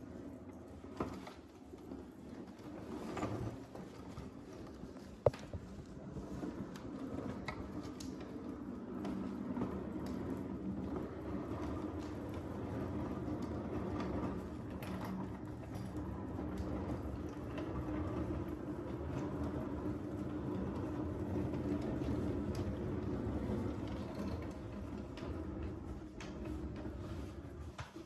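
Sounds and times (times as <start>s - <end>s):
cart wheels rolling on hard floor: 0.0s - 28.0s.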